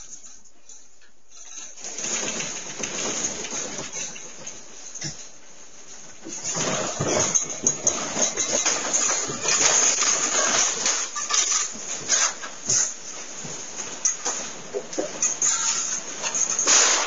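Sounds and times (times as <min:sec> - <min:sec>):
house rattling and creaking: 0:00.0 - 0:17.0.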